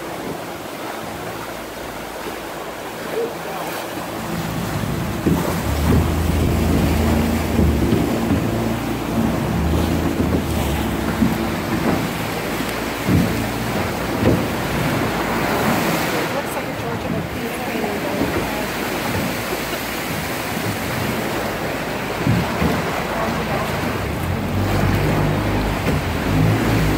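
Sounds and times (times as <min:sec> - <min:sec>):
motorboat engine humming: 0:00.0 - 0:26.9
water churning and splashing: 0:00.0 - 0:26.9
short splashes or knocks: 0:01.2 - 0:26.9.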